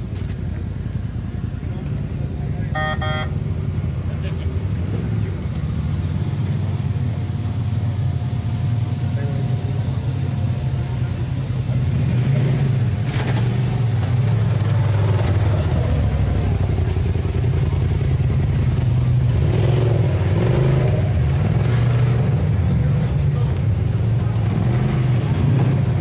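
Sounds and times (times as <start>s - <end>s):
engines idling: 0.0s - 26.0s.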